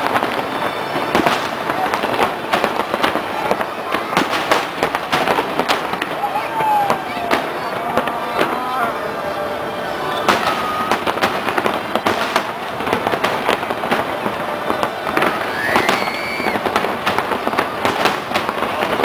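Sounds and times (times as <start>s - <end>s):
fireworks bangs and crackling: 0.0s - 19.0s
rising firework whistle: 0.0s - 19.0s.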